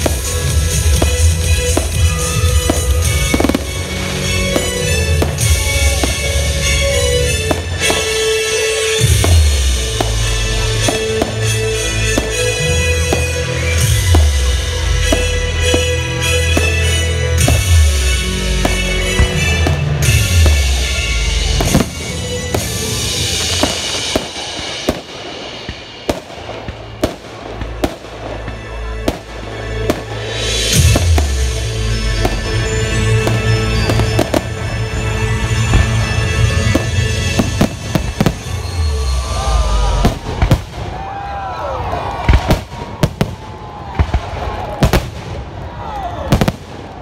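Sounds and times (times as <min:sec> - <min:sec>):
fireworks bangs: 0:00.0 - 0:47.0
show music: 0:00.0 - 0:47.0.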